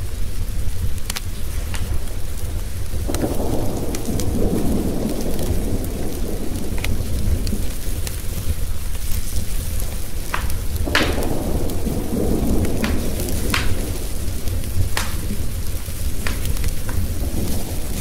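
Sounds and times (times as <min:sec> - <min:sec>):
steady rain: 0:00.0 - 0:18.0
wood fire crackling and popping: 0:00.0 - 0:18.0
rolling thunder: 0:03.0 - 0:18.0.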